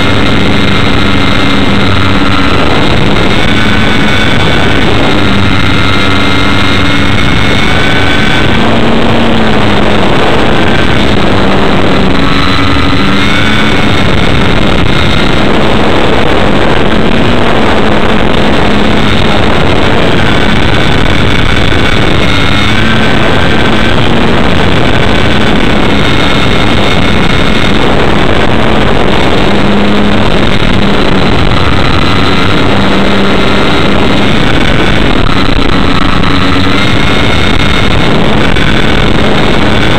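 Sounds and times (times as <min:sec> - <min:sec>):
model airplane motor whine: 0:00.0 - 0:39.9
wind rush: 0:00.0 - 0:39.9.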